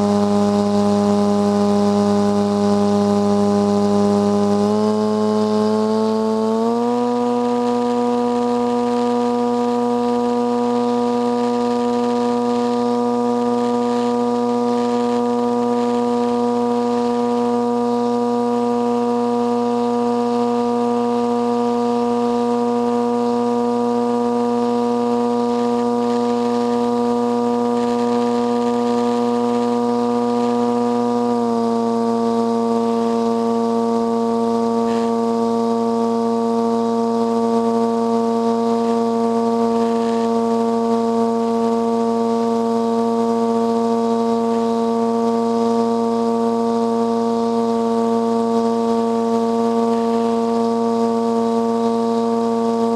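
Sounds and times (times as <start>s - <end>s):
model airplane motor droning: 0.0s - 52.9s.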